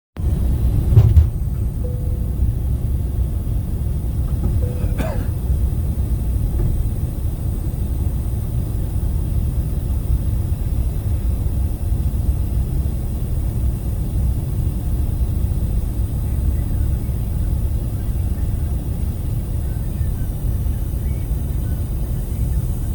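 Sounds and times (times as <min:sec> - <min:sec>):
airliner cabin engine rumble: 0:00.2 - 0:22.9.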